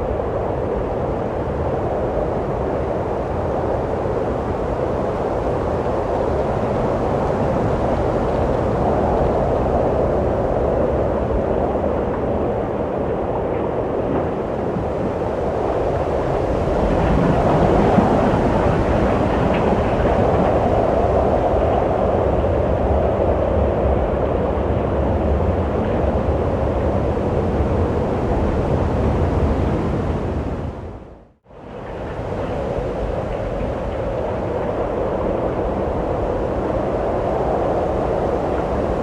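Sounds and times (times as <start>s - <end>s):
rushing wind: 0.0s - 39.0s.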